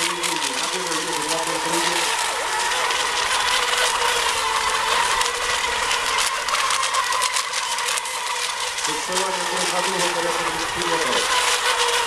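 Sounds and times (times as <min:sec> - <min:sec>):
rc boats motor whine: 0:00.0 - 0:12.0.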